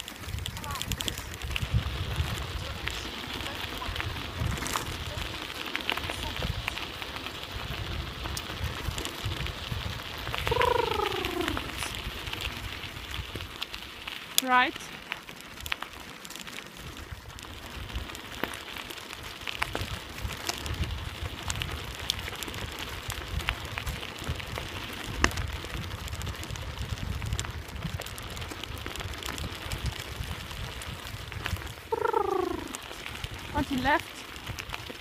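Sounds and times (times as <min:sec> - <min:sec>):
bicycle tyres on gravel: 0:00.0 - 0:35.0.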